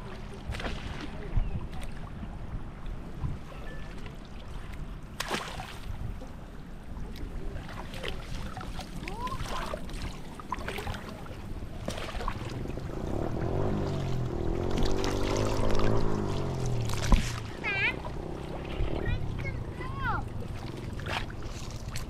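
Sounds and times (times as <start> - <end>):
water splashing and sloshing: 0.0 - 22.0
wind rumble on microphone: 0.0 - 22.0.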